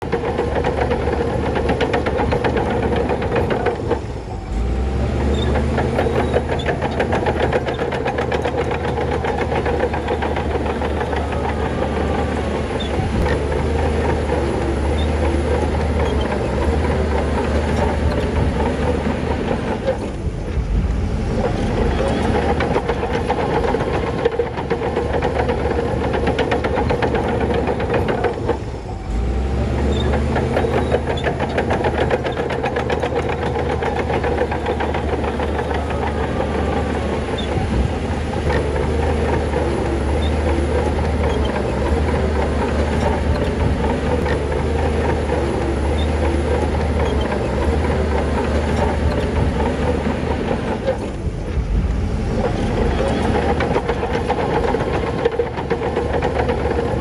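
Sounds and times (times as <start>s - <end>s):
bulldozer diesel engine running: 0.0s - 57.0s
clatter of machinery: 0.0s - 57.0s.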